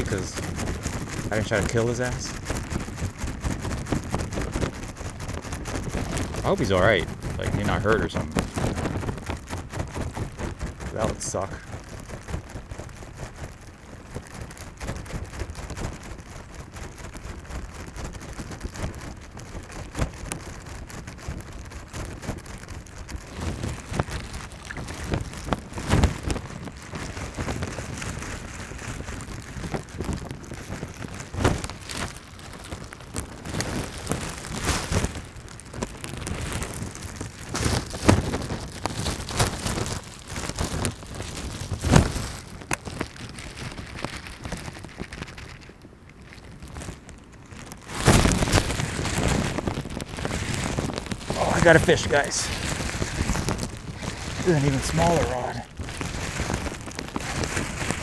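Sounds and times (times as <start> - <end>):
steady rain: 0.0 - 44.8, 46.7 - 58.0.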